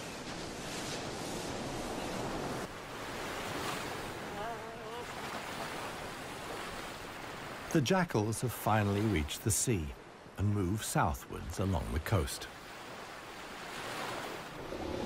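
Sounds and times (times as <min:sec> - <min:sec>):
ocean surf breaking on beach: 0:00.0 - 0:15.0
wind: 0:00.0 - 0:15.0.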